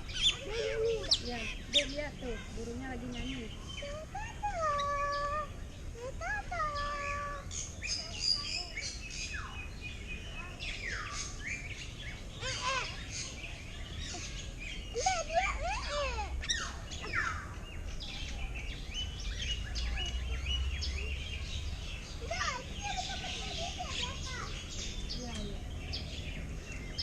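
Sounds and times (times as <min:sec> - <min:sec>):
birds singing and calling: 0:00.0 - 0:27.0.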